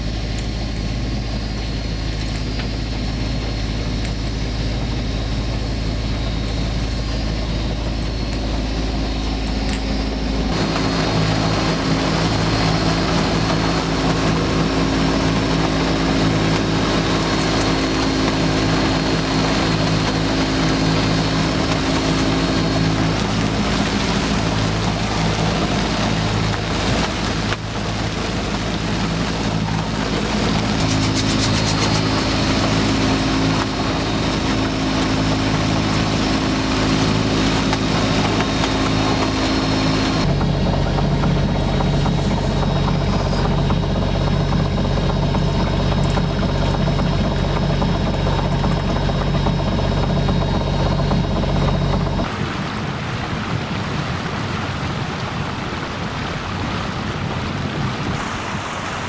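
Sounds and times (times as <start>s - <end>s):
inboard diesel engine running: 0.0s - 59.0s
water noise: 0.0s - 59.0s
wind: 0.0s - 59.0s.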